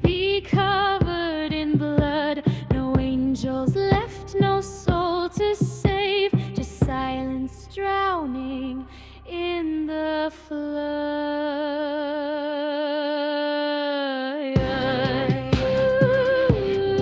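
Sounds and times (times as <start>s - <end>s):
woman singing wordless notes: 0.0s - 17.0s.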